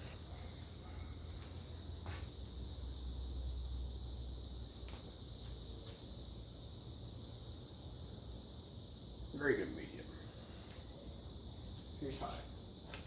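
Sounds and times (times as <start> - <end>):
ceiling fan humming: 0.0 - 13.0
high-pitched hiss: 0.0 - 13.0.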